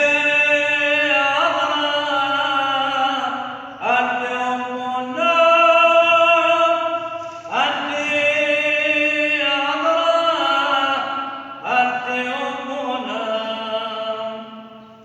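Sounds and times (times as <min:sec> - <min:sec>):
man chanting a prayer: 0:00.0 - 0:15.0.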